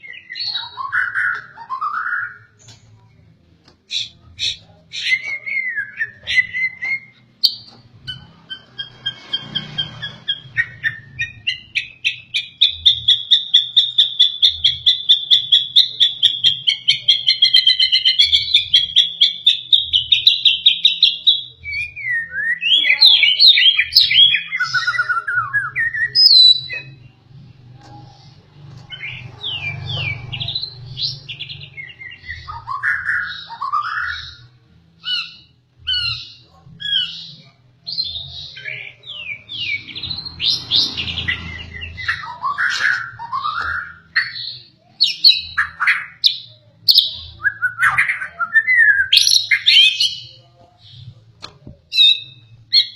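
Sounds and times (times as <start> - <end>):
bird singing trills and whistles: 0.0 - 2.6, 3.9 - 27.1, 28.8 - 51.0, 51.9 - 52.9.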